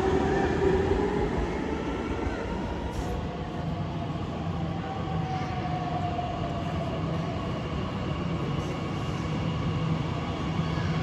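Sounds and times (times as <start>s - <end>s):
train electric hum: 0.0s - 11.0s.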